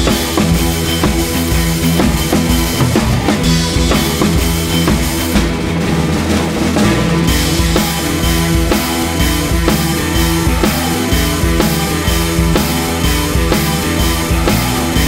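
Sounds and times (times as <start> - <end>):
music with drum kit beat: 0.0 - 15.0.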